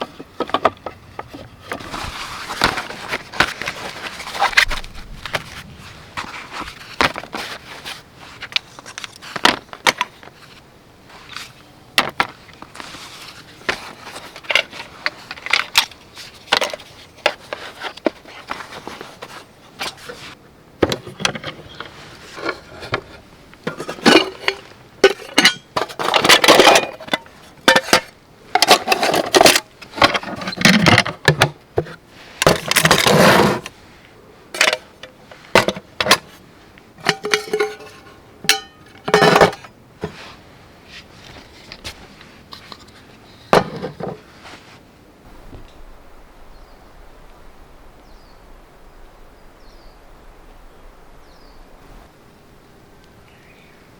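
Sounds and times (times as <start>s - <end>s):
scraping and rustling: 0.0s - 44.9s.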